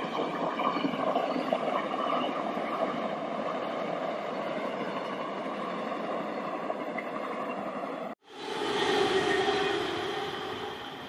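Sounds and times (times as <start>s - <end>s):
passenger train rumbling past: 0.0s - 11.0s.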